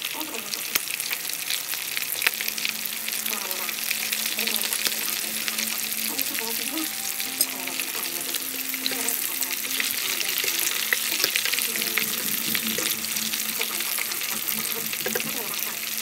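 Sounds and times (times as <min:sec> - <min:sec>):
shrimp sizzling in hot oil: 0:00.0 - 0:16.0.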